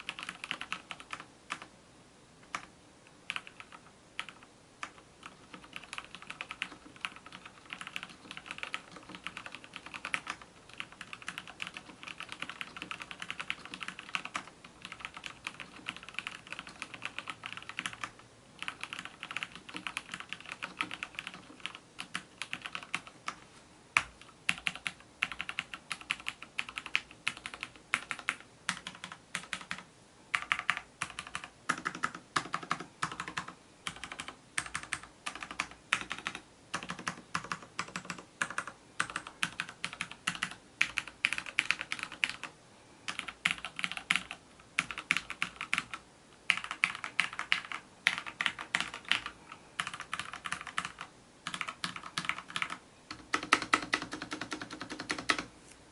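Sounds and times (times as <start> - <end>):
mechanical keyboard typing: 0.0 - 1.7, 3.3 - 23.4, 24.0 - 42.5, 43.1 - 55.5.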